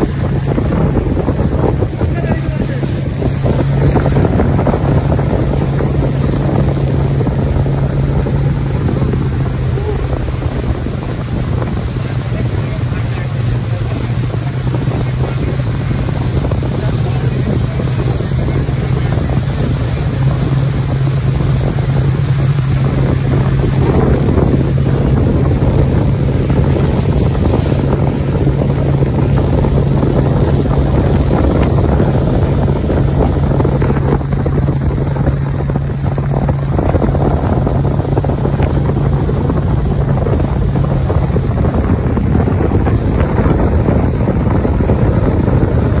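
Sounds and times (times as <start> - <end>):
motorboat engine drone: 0.0 - 46.0
water rushing past hull: 0.0 - 46.0
wind buffeting microphone: 0.0 - 46.0.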